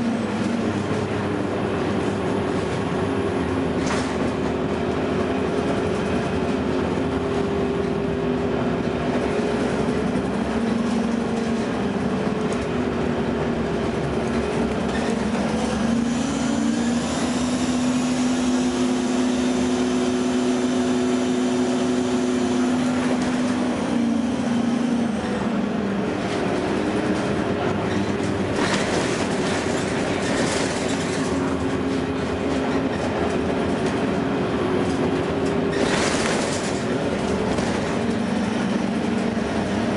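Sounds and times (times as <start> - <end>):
bus engine drone with whine: 0.0 - 39.9
road and cabin noise: 0.0 - 39.9.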